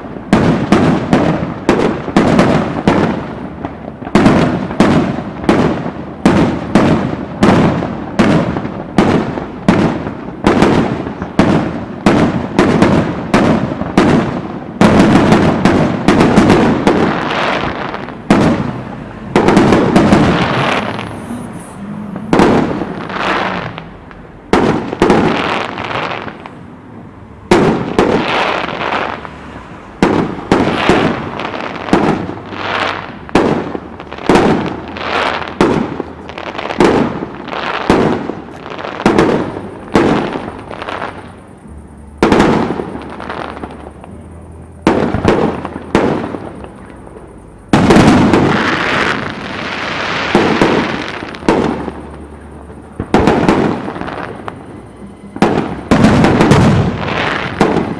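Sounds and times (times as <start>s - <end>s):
fireworks bursting: 0.0s - 57.9s.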